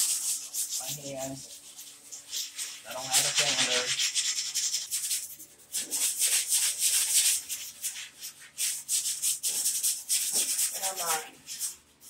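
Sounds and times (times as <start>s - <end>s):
sandpaper scratching sheet metal: 0.0s - 12.0s.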